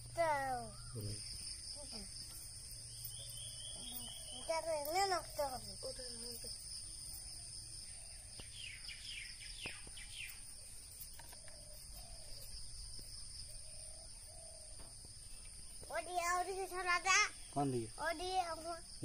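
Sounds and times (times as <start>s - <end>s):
bird chirping: 0.0s - 19.0s
high-pitched insect drone: 0.0s - 19.0s.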